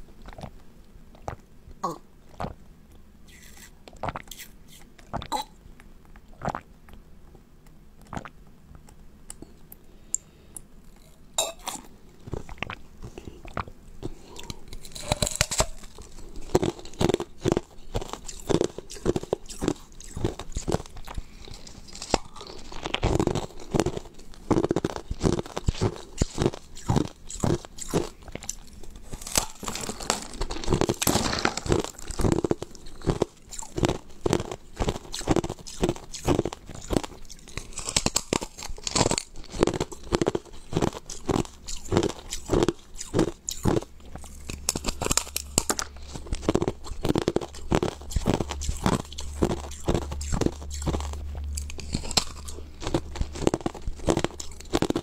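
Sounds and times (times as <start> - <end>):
crunching and chewing: 0.0 - 1.5, 10.9 - 55.0.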